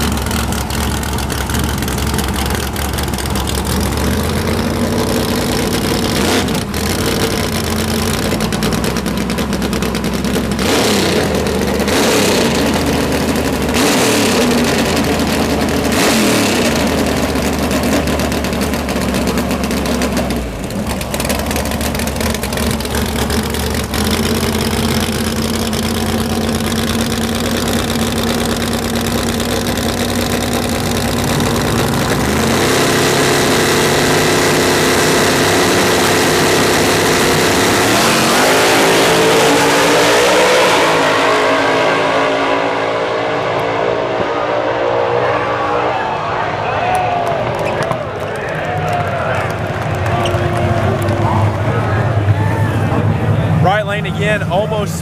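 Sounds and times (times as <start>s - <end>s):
car engines idling and revving: 0.0s - 55.0s.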